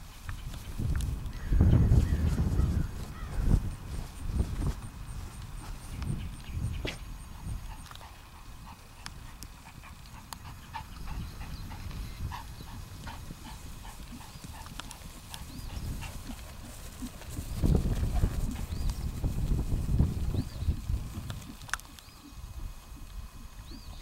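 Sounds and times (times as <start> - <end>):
horse hoofbeats on grass: 0.0 - 24.0.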